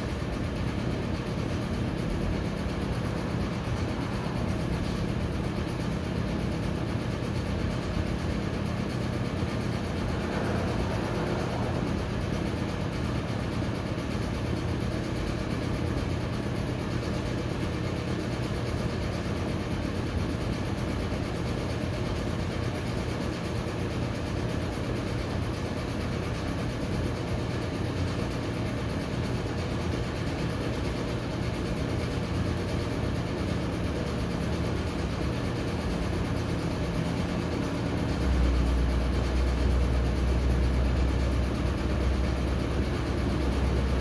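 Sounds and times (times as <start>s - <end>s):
low machine hum: 0.0s - 44.0s.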